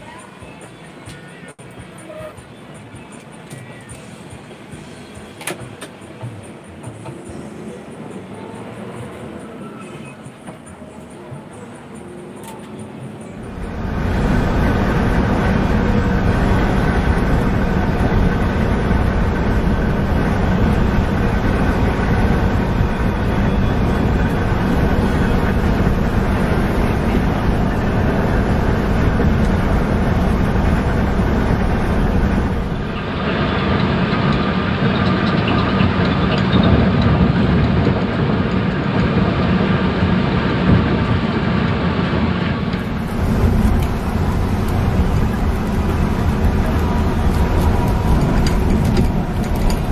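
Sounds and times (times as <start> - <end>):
bus engine droning: 0.0 - 49.9
road and tyre noise: 0.0 - 49.9.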